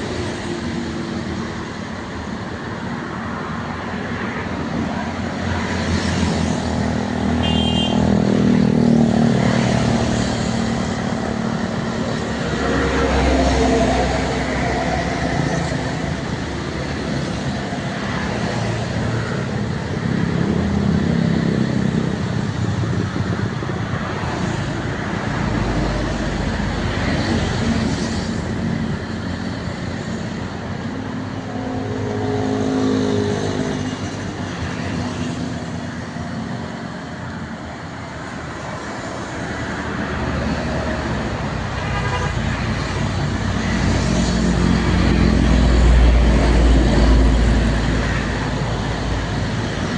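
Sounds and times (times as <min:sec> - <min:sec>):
car and truck engines: 0:00.0 - 0:49.9.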